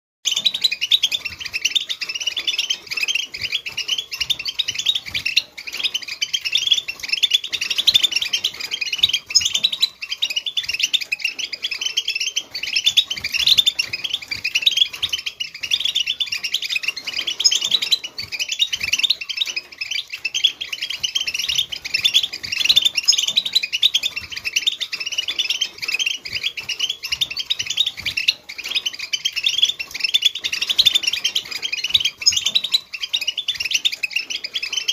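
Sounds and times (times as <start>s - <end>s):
goldfinch twittering song: 0.2s - 34.9s.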